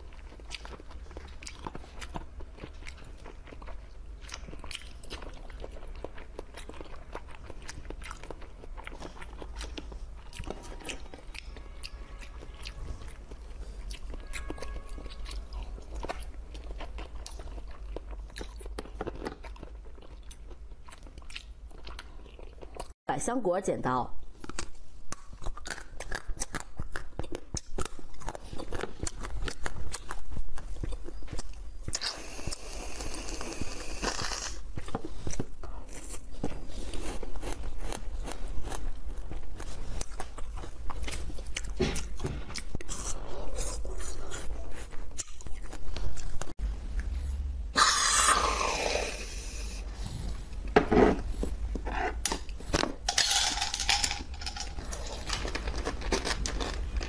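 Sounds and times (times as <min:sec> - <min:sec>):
chewing firm jelly: 0:00.0 - 0:23.0, 0:24.3 - 0:57.0.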